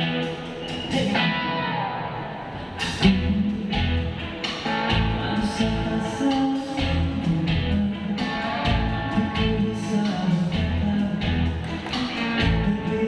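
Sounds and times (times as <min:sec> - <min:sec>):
band music with guitar: 0:00.0 - 0:13.0.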